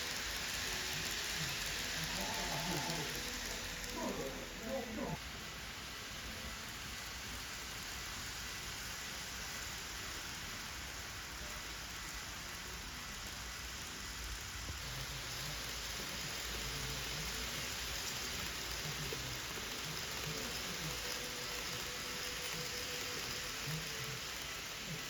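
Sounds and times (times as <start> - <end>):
steady hissing noise: 0.0 - 25.0.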